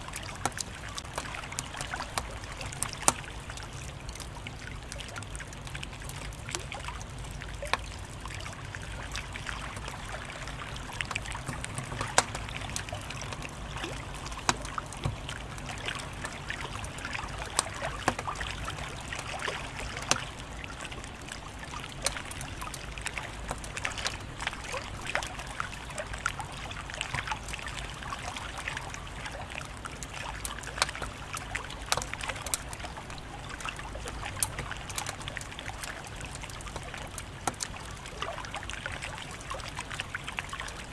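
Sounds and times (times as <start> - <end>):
wood fire crackling: 0.0 - 38.6.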